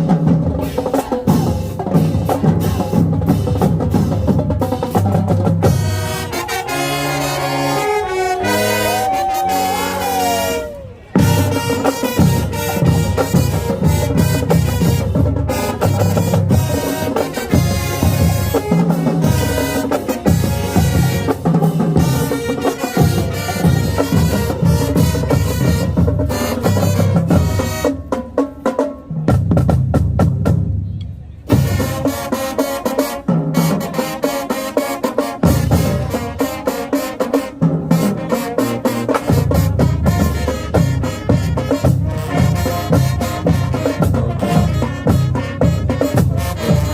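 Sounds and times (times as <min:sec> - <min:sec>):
snare and bass drums: 0:00.0 - 0:07.8, 0:11.1 - 0:46.9
marching band wind instruments: 0:00.0 - 0:46.9.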